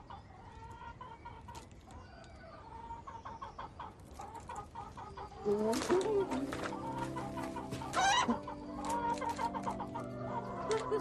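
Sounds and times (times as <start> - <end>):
hen clucking: 0.0 - 11.0.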